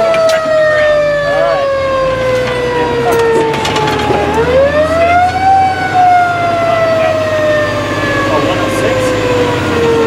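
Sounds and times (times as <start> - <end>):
fire engine siren wailing: 0.0 - 10.0
truck engine rumble: 0.0 - 10.0.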